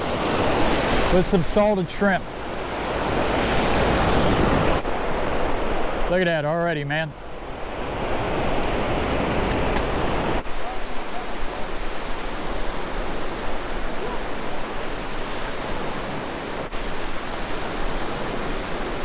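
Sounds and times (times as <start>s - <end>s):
surf washing on beach: 0.0s - 19.0s.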